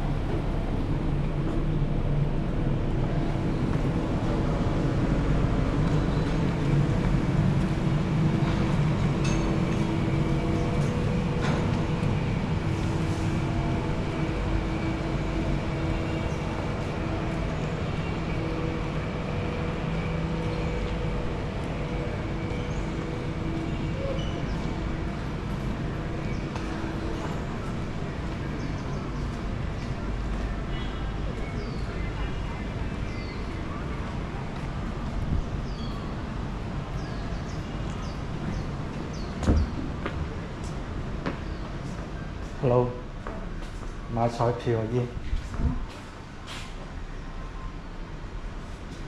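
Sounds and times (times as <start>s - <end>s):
vehicle rumble: 0.0s - 42.4s.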